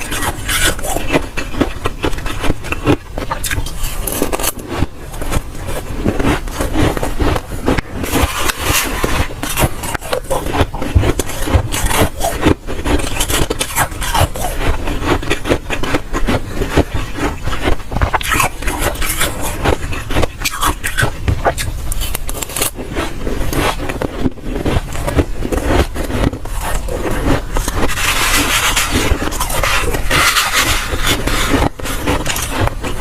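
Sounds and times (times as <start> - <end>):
chewing crunchy frost: 0.0 - 33.0.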